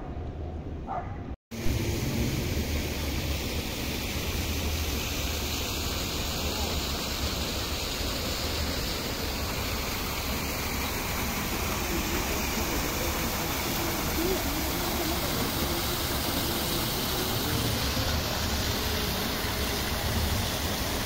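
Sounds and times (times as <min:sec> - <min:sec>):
fountain water pouring into pool: 0:01.5 - 0:21.0.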